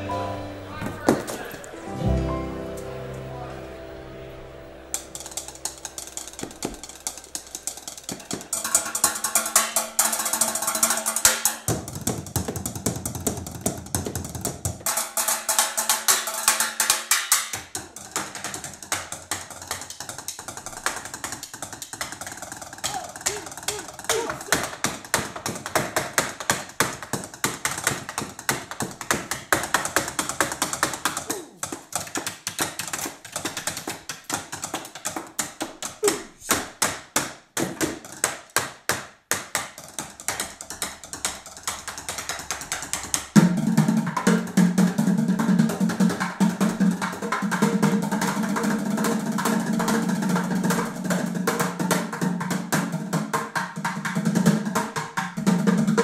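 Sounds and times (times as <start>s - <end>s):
plastic bucket drumming: 5.2s - 36.3s, 39.4s - 56.0s.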